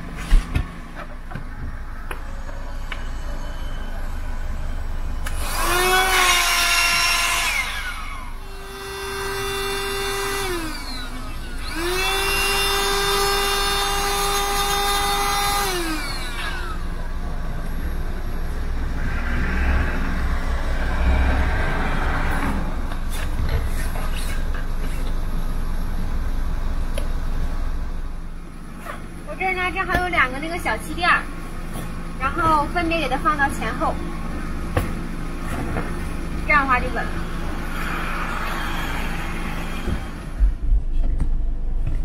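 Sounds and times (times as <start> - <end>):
electric air pump whining: 0.0 - 40.8.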